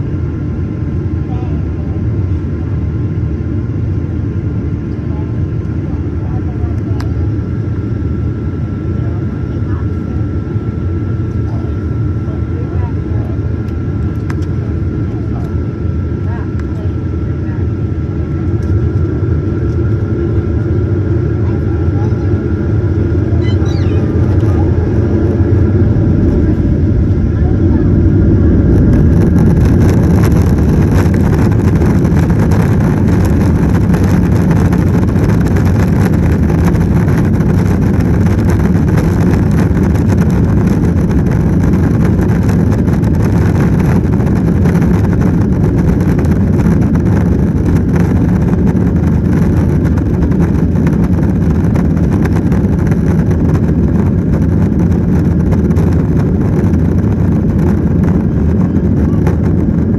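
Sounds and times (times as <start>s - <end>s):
airliner cabin engine and airflow rush: 0.0s - 59.9s.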